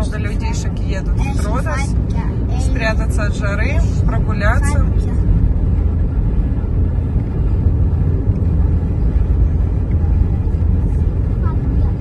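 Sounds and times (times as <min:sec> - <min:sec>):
car interior road and engine noise: 0:00.0 - 0:12.0.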